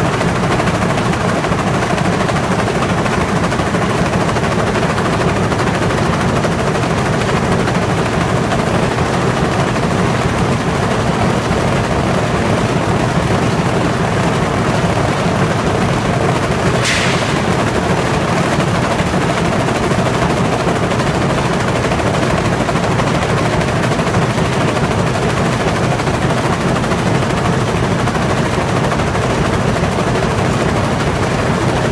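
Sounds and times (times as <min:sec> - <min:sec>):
machine rattling clatter: 0:00.0 - 0:31.9.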